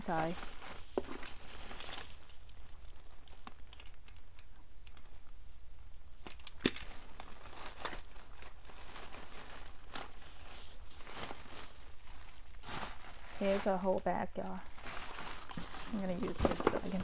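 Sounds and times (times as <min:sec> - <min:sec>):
packaging rustling: 0:00.0 - 0:05.4, 0:06.0 - 0:17.0.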